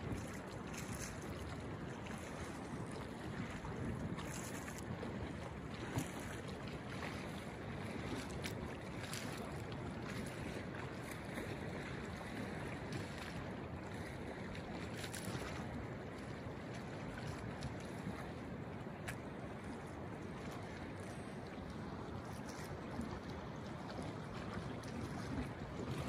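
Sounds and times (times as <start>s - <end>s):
river rushing and rippling: 0.0s - 26.0s.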